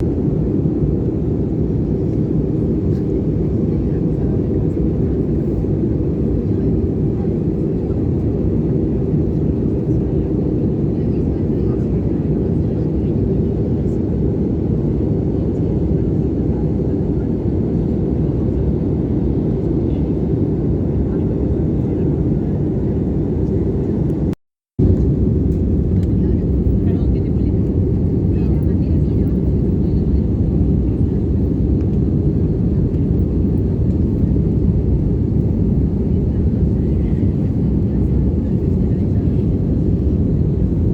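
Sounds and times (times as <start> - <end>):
airflow and engine rumble: 0.0 - 40.9.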